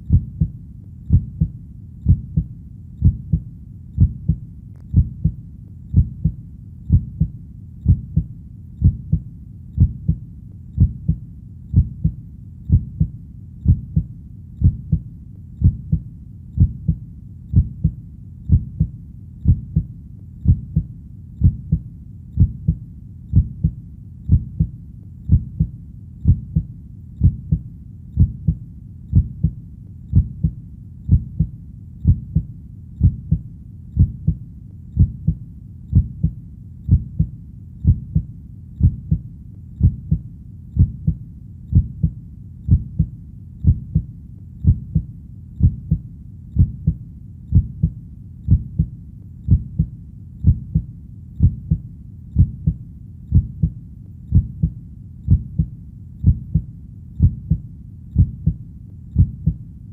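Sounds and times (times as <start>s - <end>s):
heartbeat double thumps: 0.0s - 59.6s.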